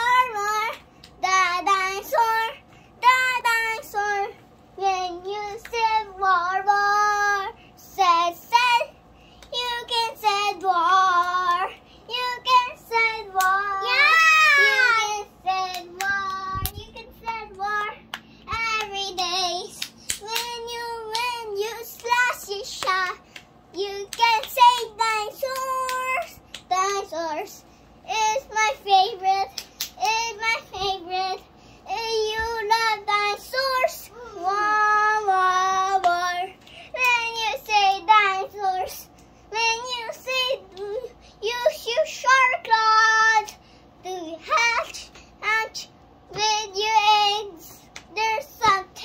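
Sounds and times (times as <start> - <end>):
girl singing unaccompanied: 0.0 - 49.0.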